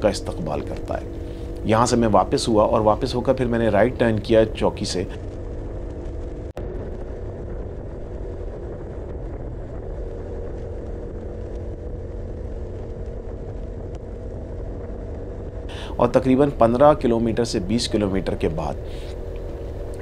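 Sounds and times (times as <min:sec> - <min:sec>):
motorcycle engine cruising: 0:00.0 - 0:20.0
wind and road noise: 0:00.0 - 0:20.0.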